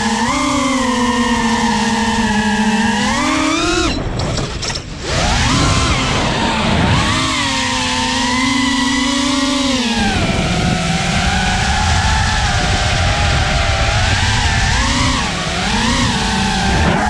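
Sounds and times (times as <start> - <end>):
quadcopter motors whining: 0.0 - 17.0
rush of wind: 1.3 - 9.1, 9.8 - 17.0.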